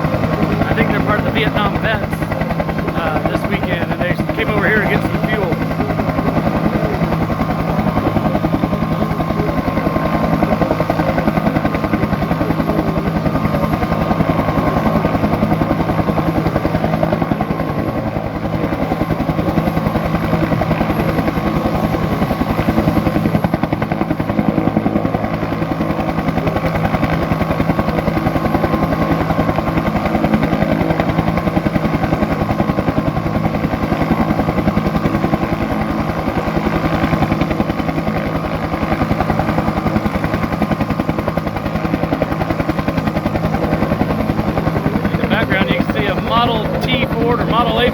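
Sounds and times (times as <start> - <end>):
helicopter rotor beating: 0.0 - 47.9
turbine engine whine: 0.0 - 47.9.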